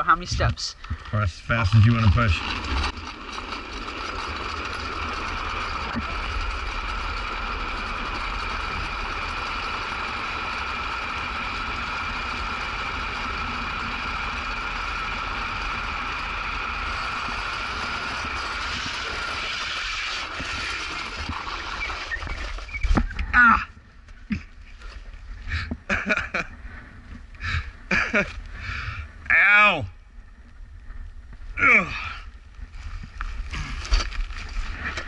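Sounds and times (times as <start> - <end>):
plastic wheels rolling on asphalt: 0.0 - 29.1, 30.3 - 35.0.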